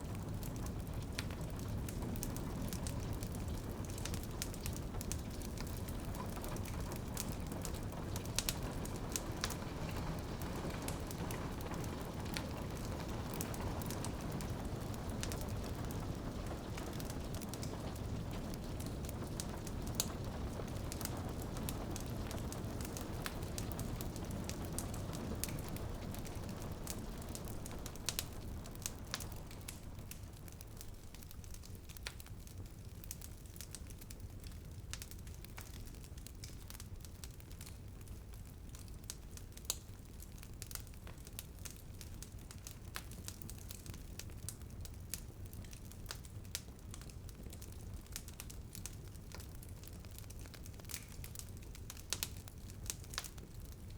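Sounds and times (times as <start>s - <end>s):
steady rain: 0.0s - 53.9s
wood fire crackling: 0.0s - 53.9s.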